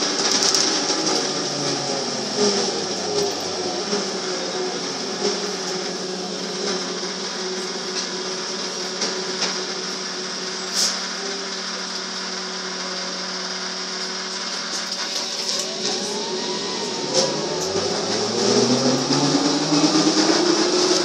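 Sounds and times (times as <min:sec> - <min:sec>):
electric motor hum: 0:00.0 - 0:21.0
road and cabin noise: 0:00.0 - 0:21.0.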